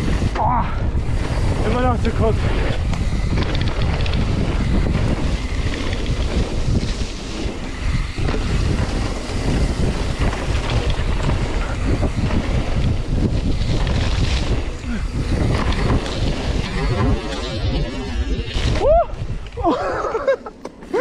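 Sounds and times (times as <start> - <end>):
tyres rumbling on wet dirt: 0.0 - 19.5
wind buffeting microphone: 0.0 - 20.4.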